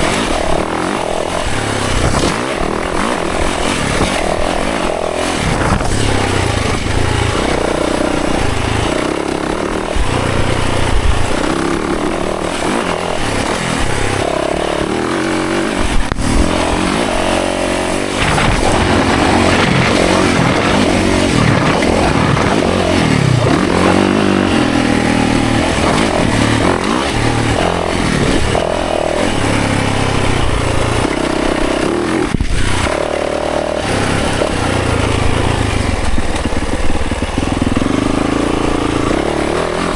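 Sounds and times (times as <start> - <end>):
wind noise: 0.0 - 33.0
dirt bike engine revving: 0.0 - 39.9.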